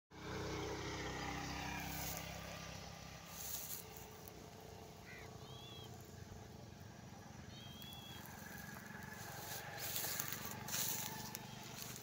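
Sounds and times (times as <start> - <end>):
motor engine running: 0.1 - 12.0.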